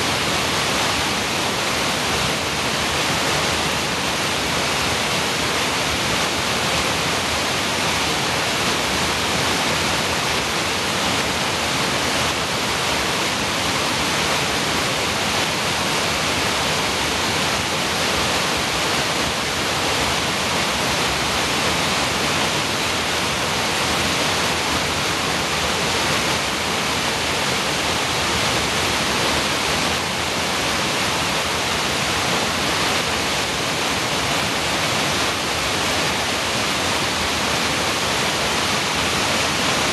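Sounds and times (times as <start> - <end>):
waterfall pouring over rocks: 0.0 - 39.9.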